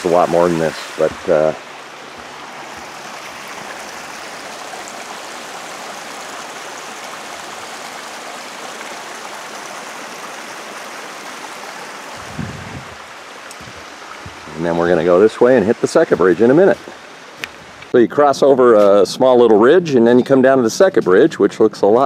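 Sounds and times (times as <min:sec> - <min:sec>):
forest creek flowing: 0:00.0 - 0:22.0.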